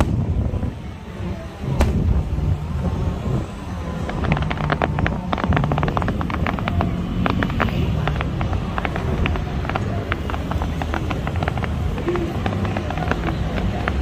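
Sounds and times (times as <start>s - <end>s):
fireworks crackling: 1.6s - 14.0s.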